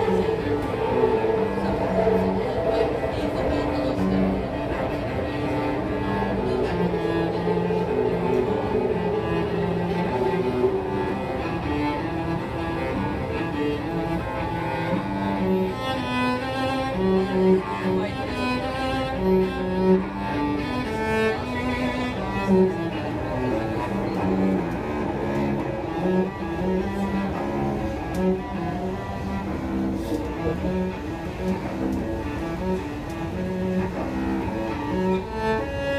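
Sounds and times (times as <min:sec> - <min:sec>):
bowed cello melody: 0:00.0 - 0:35.9.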